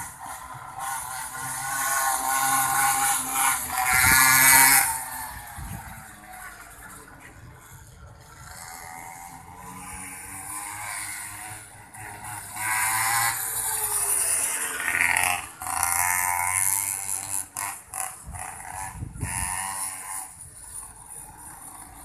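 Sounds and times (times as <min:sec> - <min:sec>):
mini motorbike engine revving: 0:00.0 - 0:22.0.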